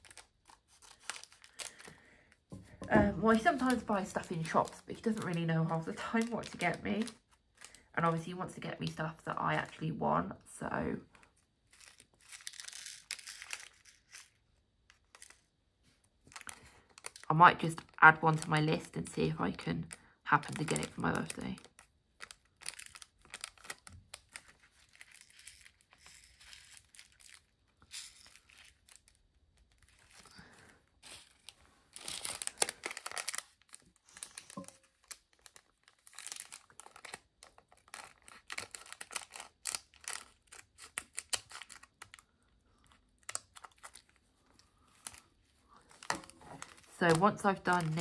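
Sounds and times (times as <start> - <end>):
plastic bags crinkling: 0.0 - 9.9, 11.6 - 14.4, 16.2 - 48.0.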